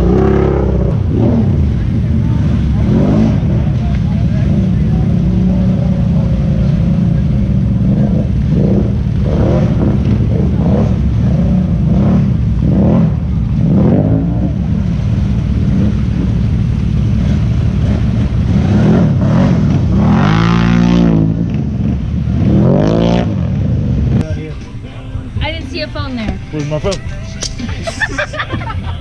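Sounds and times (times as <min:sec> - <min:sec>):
engine revving: 0:00.0 - 0:24.3.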